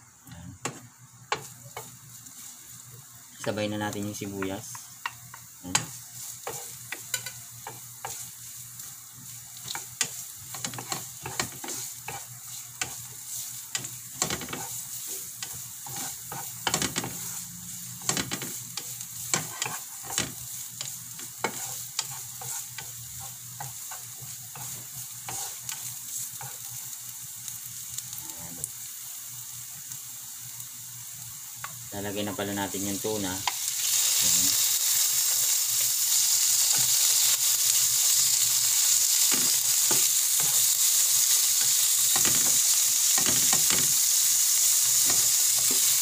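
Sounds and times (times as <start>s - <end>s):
aromatics sizzling in oil: 0.0s - 46.0s.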